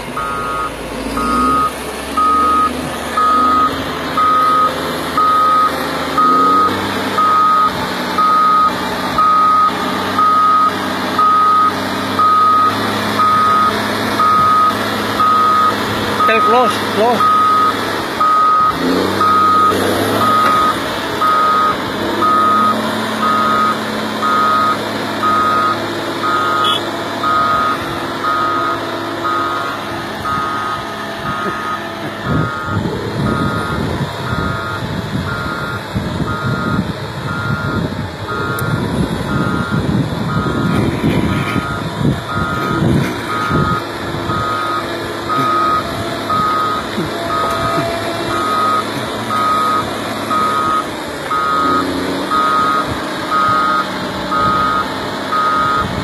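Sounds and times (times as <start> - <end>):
diesel engine running: 0.0 - 56.0
reverse alarm beeping: 0.2 - 40.8, 41.5 - 56.0.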